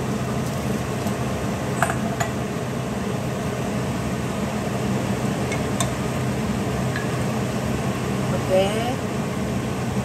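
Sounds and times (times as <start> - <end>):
appliance hum and fan whir: 0.0 - 10.0.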